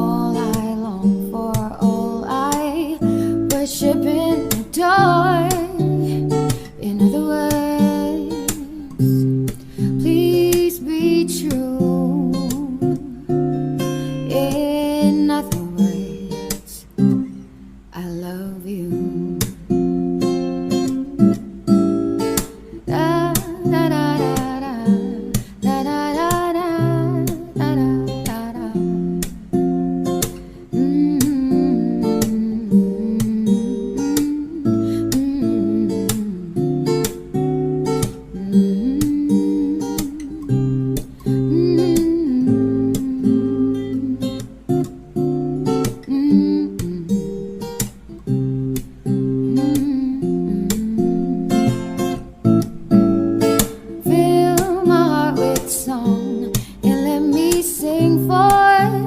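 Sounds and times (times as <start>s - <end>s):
acoustic guitar music: 0.0s - 59.0s.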